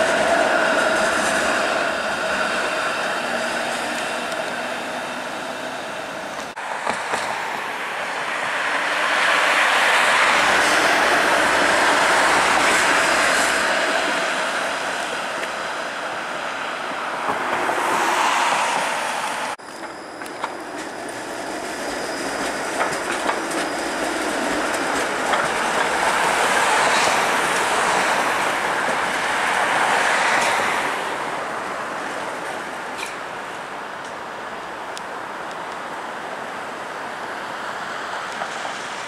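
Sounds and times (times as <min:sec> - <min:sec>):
passing car traffic: 0:00.0 - 0:39.0
streetcars rolling on track: 0:00.0 - 0:39.0.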